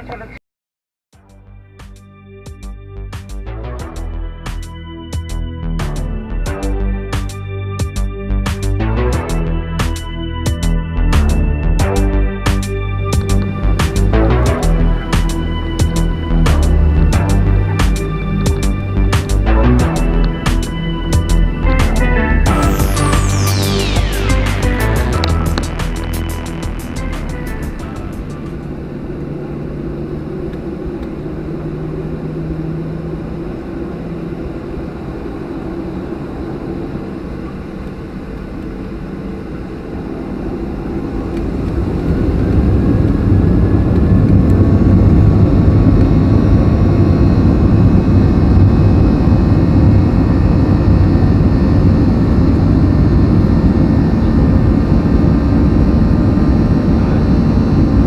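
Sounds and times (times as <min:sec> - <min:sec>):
jet engines roaring from cabin: 0:03.8 - 0:58.0.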